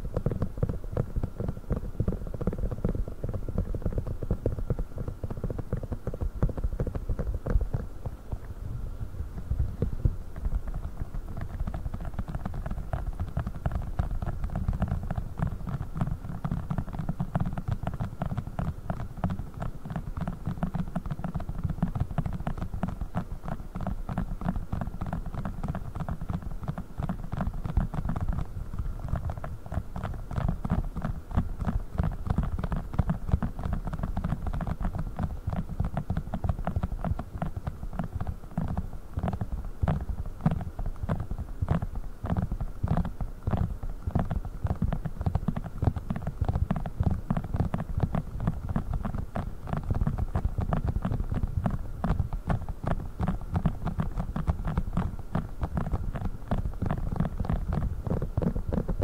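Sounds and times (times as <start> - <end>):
fingers tapping on silicone: 9.8 - 59.0.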